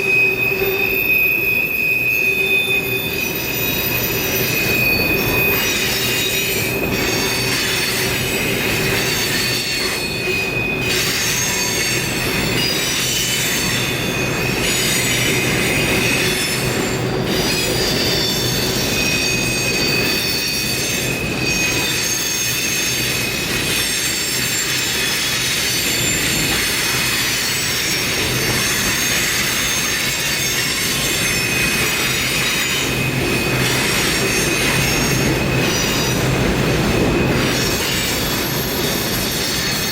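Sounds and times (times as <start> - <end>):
train rumble: 0.0 - 39.9
train wheels squealing on rails: 0.0 - 39.9.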